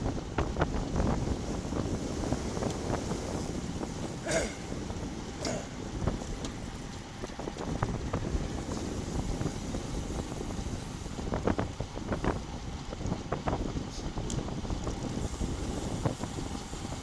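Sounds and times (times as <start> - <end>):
road and tyre noise: 0.0 - 17.0
wind buffeting microphone: 0.0 - 17.0.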